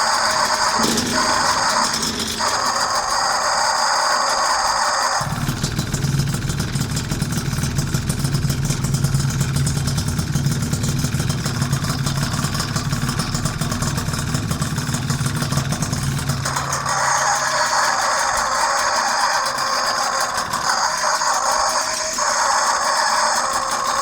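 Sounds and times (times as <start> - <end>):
two-stroke scooter engine running: 0.0 - 24.0.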